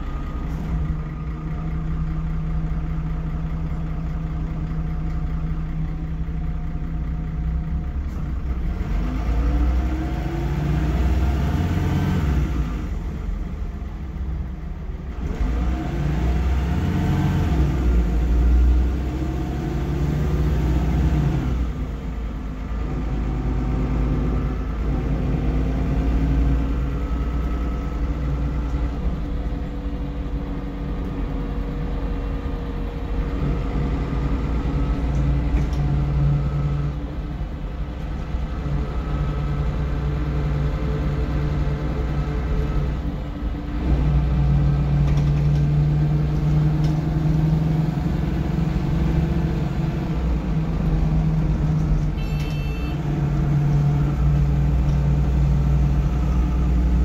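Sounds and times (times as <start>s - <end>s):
diesel bus engine from inside: 0.0s - 57.0s.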